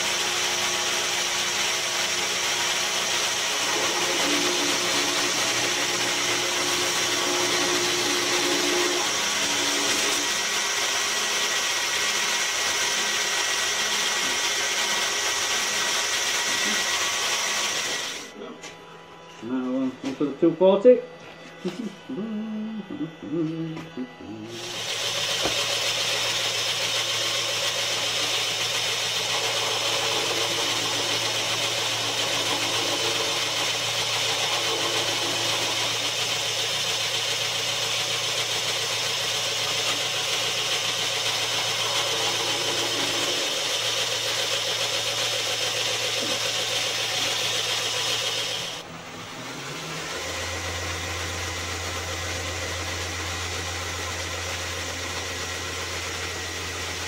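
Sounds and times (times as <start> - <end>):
belt grinder grinding steel: 0.0 - 18.3, 24.1 - 57.0
second grinder motor low hum: 0.0 - 20.6, 21.2 - 57.0
grinder motor humming: 0.0 - 57.0.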